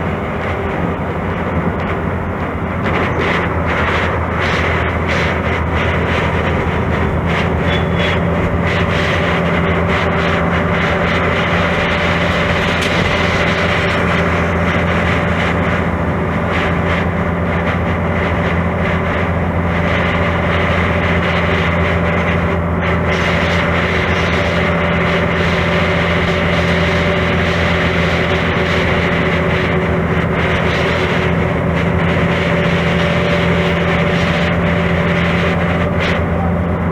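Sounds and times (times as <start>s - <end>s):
bus diesel engine drone: 0.0s - 36.9s.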